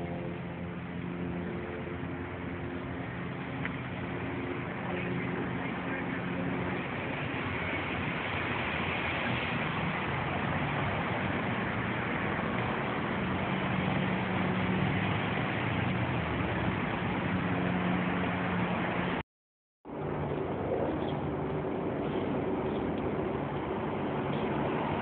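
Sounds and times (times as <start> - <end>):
street noise: 0.0 - 19.2, 19.8 - 25.0.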